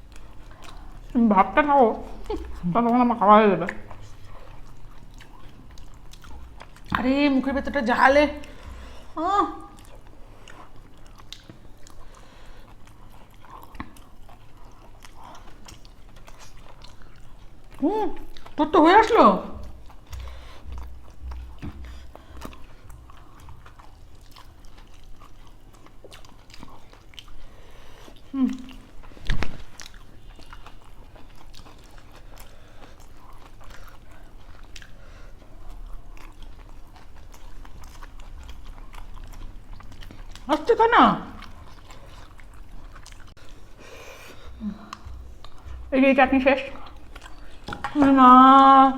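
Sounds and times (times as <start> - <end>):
people chewing food: 0.0 - 48.9.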